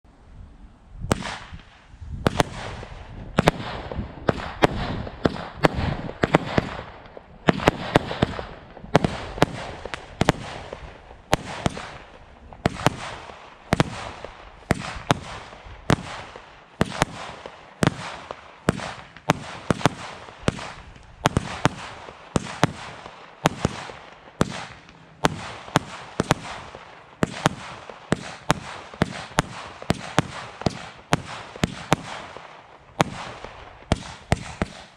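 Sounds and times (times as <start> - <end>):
firework shots: 1.0 - 34.9.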